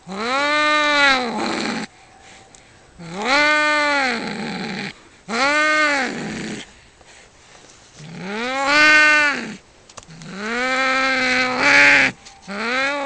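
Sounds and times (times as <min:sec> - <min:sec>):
cats yowling: 0:00.0 - 0:06.6, 0:08.0 - 0:13.0.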